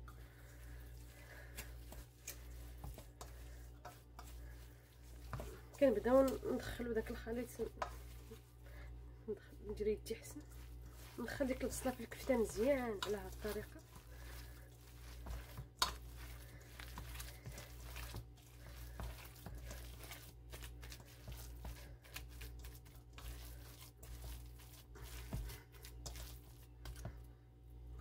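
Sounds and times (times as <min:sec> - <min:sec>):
hand mixing minced meat: 0:00.0 - 0:28.0.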